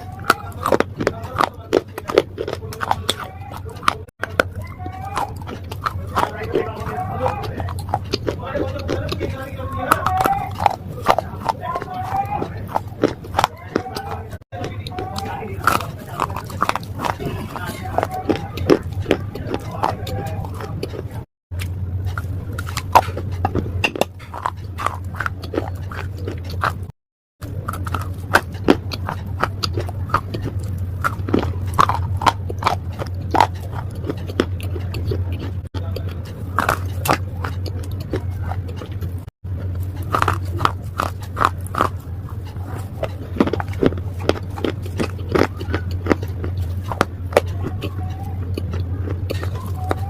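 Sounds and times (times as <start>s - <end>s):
slate being chewed: 0.0s - 50.0s
steady low hum: 0.0s - 50.0s.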